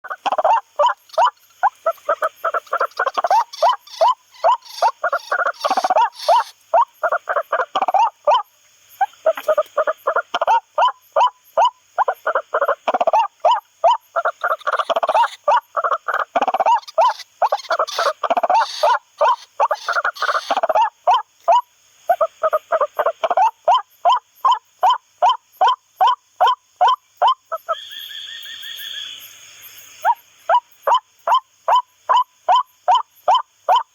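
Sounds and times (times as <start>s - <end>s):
waterhen calling: 0.0s - 29.2s.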